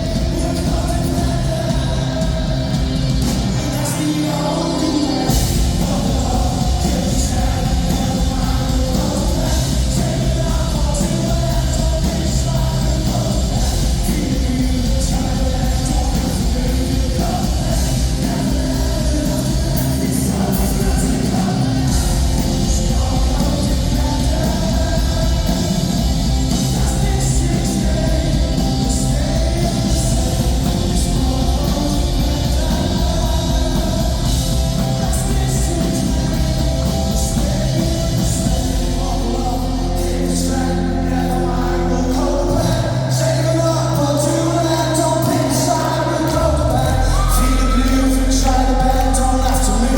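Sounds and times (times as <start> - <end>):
bass low held notes: 0.0 - 49.9
person singing: 0.0 - 49.9
rock band playing live: 0.0 - 49.9.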